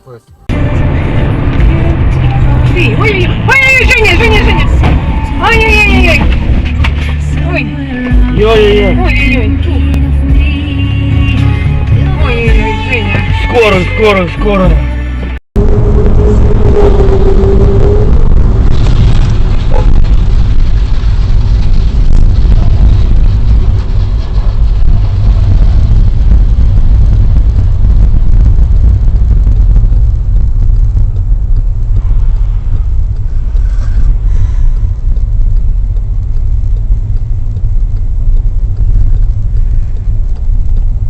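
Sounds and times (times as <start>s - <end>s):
road and engine rumble in car: 0.0s - 41.0s.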